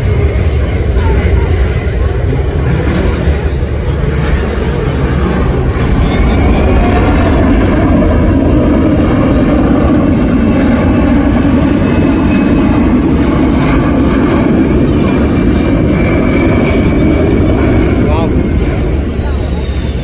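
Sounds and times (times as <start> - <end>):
high engine whine: 0.0 - 20.0
jet aircraft passing overhead: 0.0 - 20.0.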